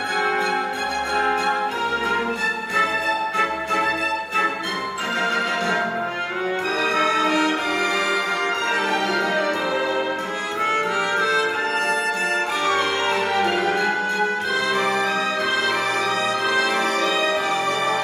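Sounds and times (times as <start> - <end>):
orchestral strings and brass: 0.0 - 18.0.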